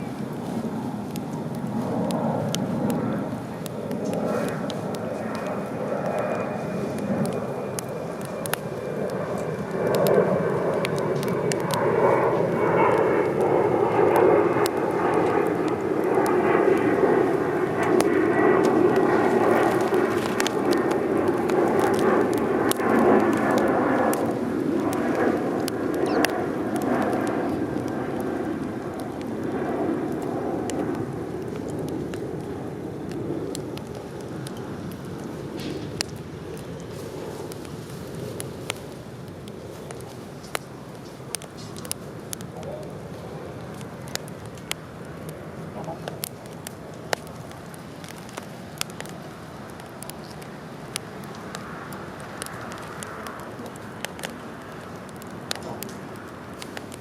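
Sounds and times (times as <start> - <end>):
distant engine drone: 0.0 - 57.0
sharp crackles: 0.0 - 57.0.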